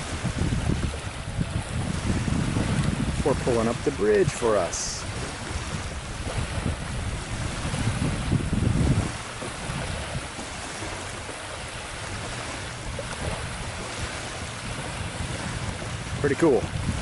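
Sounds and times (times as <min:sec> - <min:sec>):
water lapping: 0:00.0 - 0:17.0
wind buffeting microphone: 0:00.0 - 0:17.0.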